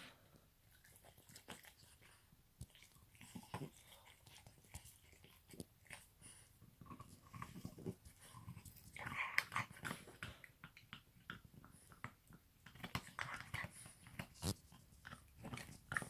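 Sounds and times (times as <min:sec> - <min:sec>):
puppy chewing on a brush: 0:00.1 - 0:16.0.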